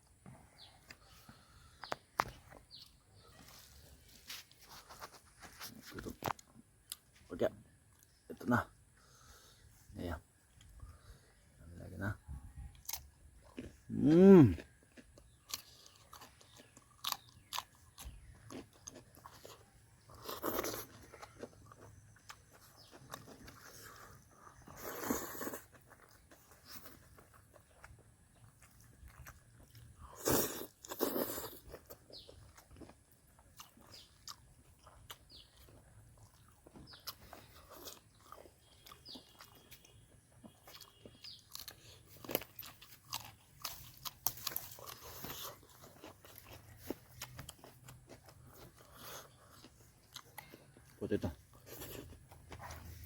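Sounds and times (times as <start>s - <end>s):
person crunching and chewing food: 0.0s - 9.6s, 12.7s - 53.0s.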